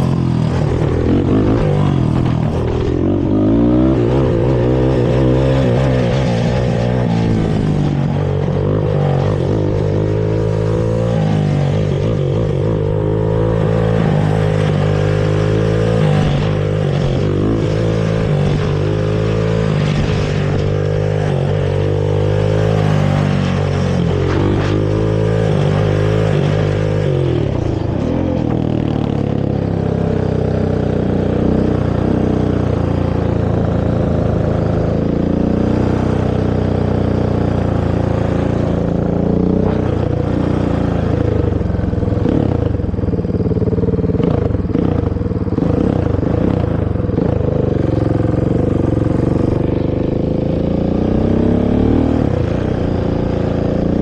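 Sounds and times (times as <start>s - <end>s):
atv engine revving through gears: 0.0s - 54.0s.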